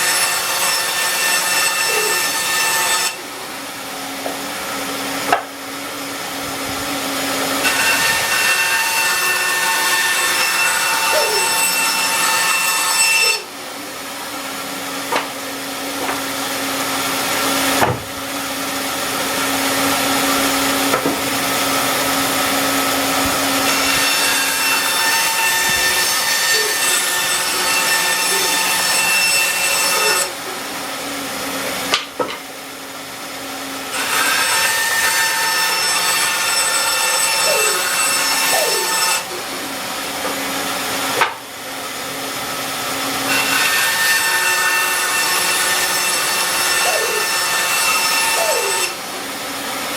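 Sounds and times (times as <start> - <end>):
band saw cutting wood: 0.0 - 49.9.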